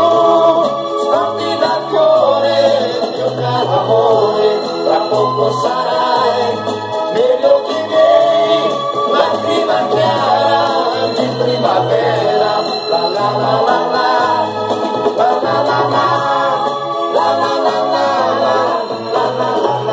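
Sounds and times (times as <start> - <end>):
instrumental pop ballad music: 0.0 - 19.9.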